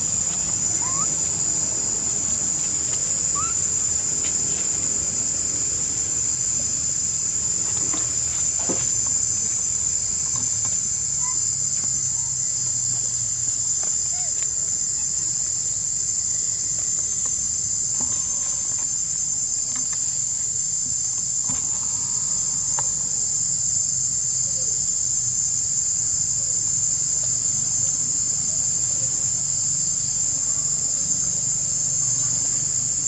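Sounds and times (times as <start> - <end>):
insect chorus drone: 0.0 - 33.0.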